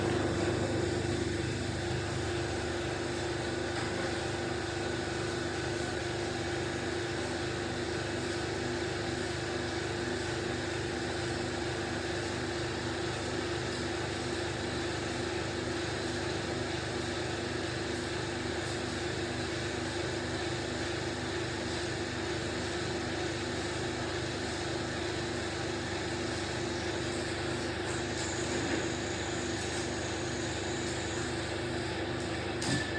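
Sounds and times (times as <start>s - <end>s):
steady mechanical hum: 0.0s - 32.9s.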